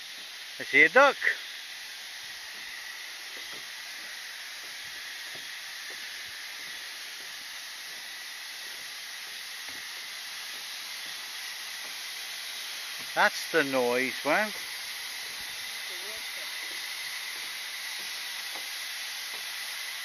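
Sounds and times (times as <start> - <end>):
water rushing: 2.1 - 19.4.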